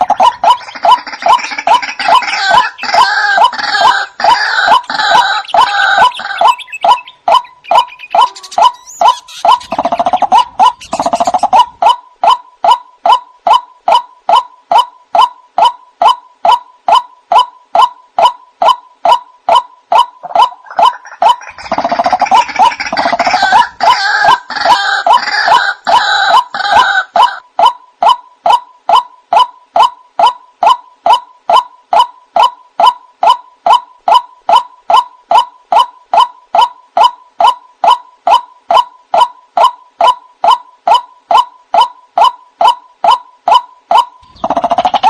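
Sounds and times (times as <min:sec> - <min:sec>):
chorus of overlapping bird calls: 0:00.0 - 0:45.0.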